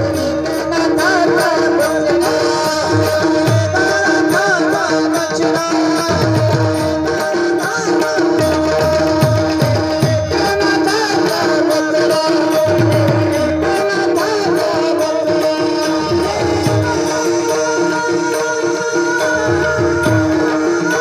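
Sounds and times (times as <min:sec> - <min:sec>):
sustained harmonium notes: 0:00.0 - 0:21.0
tabla playing rhythm: 0:00.0 - 0:21.0.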